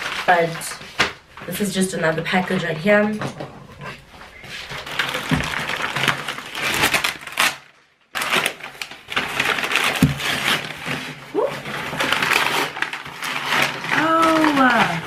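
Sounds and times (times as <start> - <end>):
plastic and paper tearing crumpling: 0.0 - 3.0, 3.8 - 15.0.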